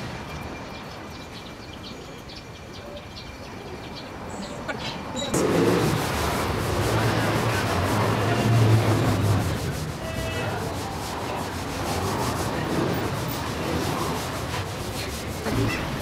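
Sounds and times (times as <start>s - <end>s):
street noise: 0.0s - 16.0s.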